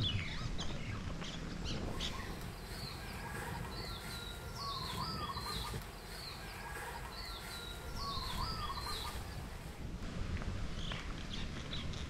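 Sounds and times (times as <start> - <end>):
songbird singing: 0.0 - 9.9
low outdoor rumble: 0.0 - 12.0.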